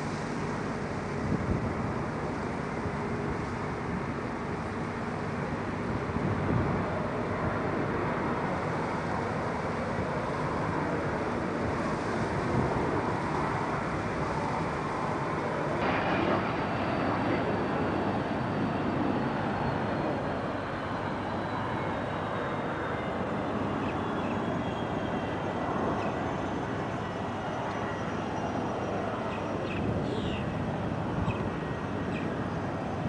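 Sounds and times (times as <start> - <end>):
high turbine whine: 0.0 - 33.0
jet engine rush: 0.0 - 33.0.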